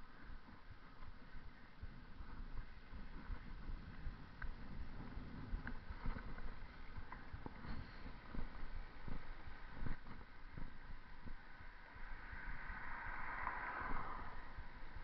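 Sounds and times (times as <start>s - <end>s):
bicycle tyres rumbling: 0.0s - 15.0s
wind buffeting microphone: 0.0s - 15.0s.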